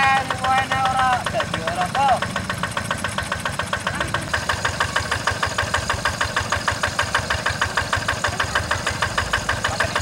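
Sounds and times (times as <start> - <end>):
hand tractor diesel engine chugging: 0.0 - 10.0.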